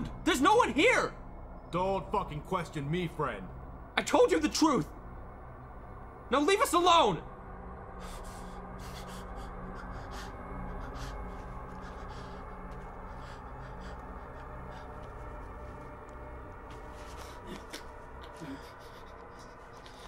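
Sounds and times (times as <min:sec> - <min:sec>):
low suspense music drone: 0:00.0 - 0:20.0.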